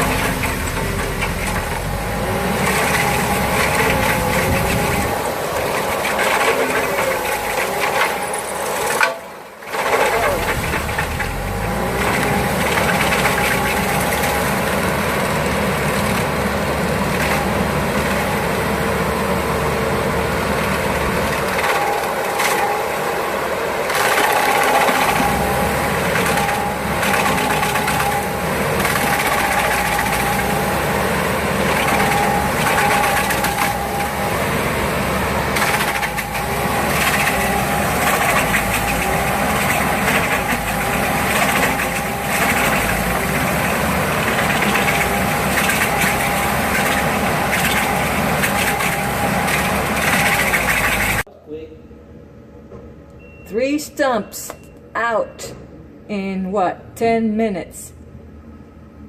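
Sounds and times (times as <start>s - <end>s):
cutting wheel grinding stump: 0.0s - 51.3s
stump grinder engine: 0.0s - 51.3s.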